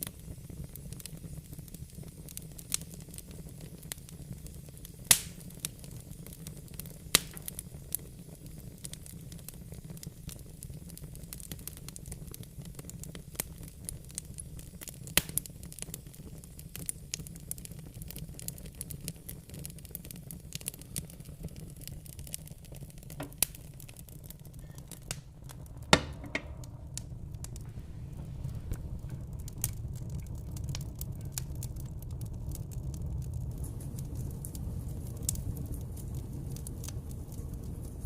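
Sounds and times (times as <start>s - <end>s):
fire crackling in fireplace: 0.0s - 38.0s.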